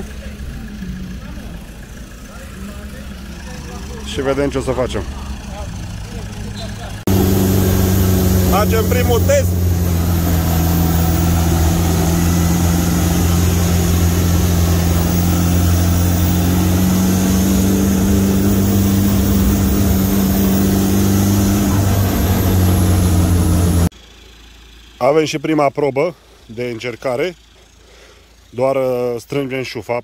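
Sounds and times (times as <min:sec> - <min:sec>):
car engine droning: 0:00.0 - 0:29.8.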